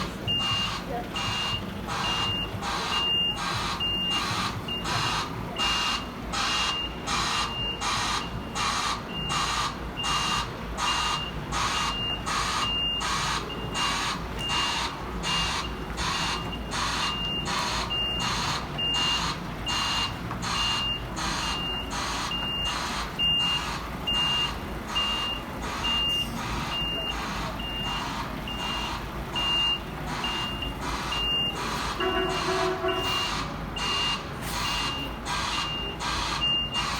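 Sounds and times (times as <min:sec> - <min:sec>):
reversing alarm beeping: 0:00.0 - 0:36.9
truck engine running: 0:00.0 - 0:36.9.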